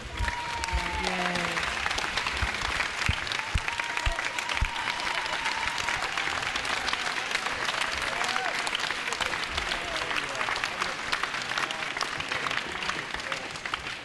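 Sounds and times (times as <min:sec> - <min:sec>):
group of people applauding: 0:00.0 - 0:14.0.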